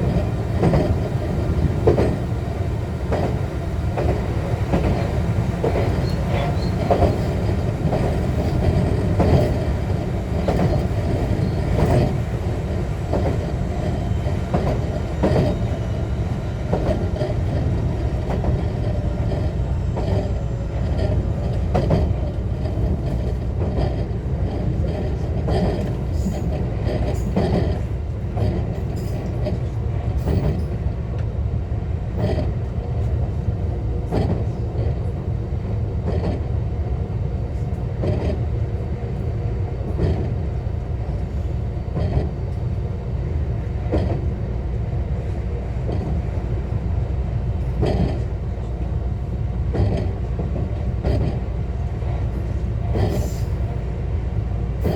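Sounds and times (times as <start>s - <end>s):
wheels clacking over rail joints: 0.0s - 30.8s, 39.8s - 44.4s, 45.1s - 53.8s
train running low rumble: 0.0s - 54.9s.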